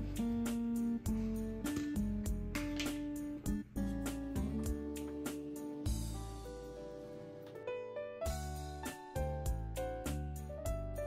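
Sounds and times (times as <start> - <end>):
piano tune over a beat: 0.0 - 11.0.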